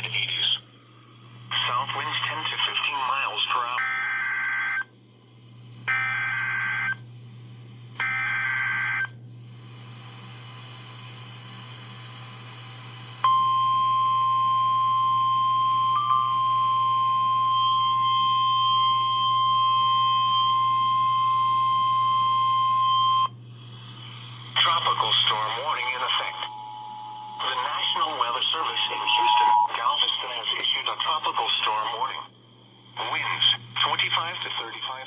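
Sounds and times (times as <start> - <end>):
steady alarm tone: 1.5 - 9.2, 10.1 - 32.9.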